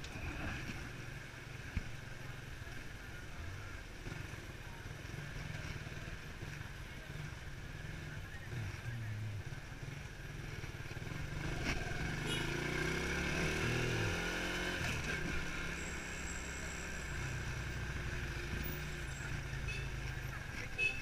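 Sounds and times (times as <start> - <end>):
motorcycle engine accelerating: 4.0 - 20.9.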